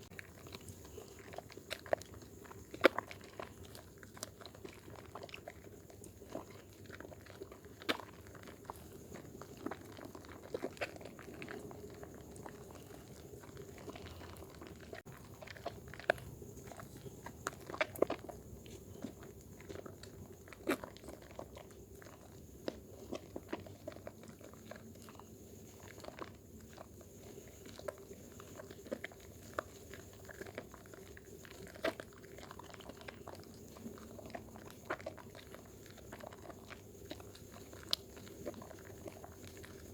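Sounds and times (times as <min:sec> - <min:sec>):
soap lathering wet squishing: 0:00.0 - 0:39.9.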